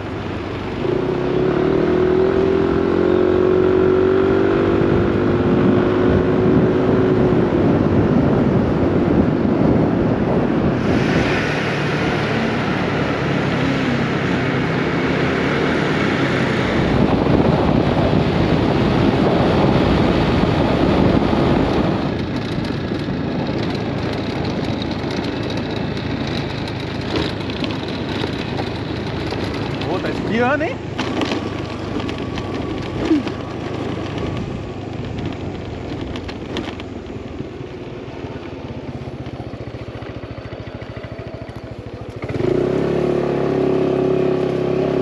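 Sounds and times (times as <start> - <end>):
scooter engine running: 0.0 - 45.0
wind and road noise: 0.0 - 45.0.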